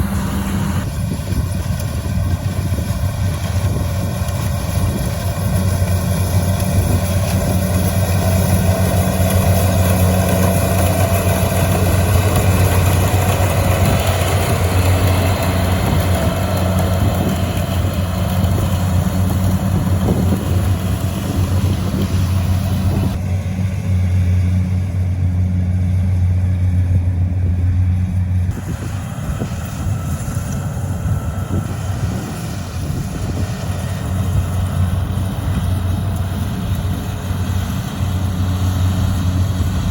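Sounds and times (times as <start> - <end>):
engine humming steadily: 0.0 - 39.9.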